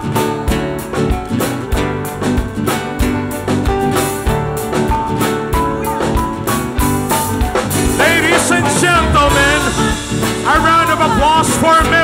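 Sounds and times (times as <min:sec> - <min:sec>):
drum kit fast beat: 0:00.0 - 0:12.0
guitar: 0:00.0 - 0:12.0.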